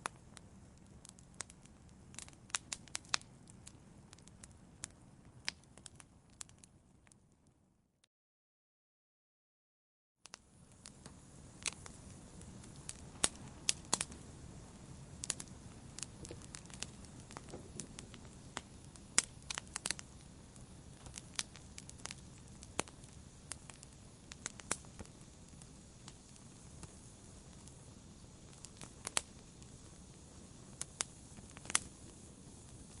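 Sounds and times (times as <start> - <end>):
wood fire crackling and snapping: 0.0 - 7.3, 10.2 - 33.0
low hiss of flames: 0.0 - 7.4, 10.2 - 33.0.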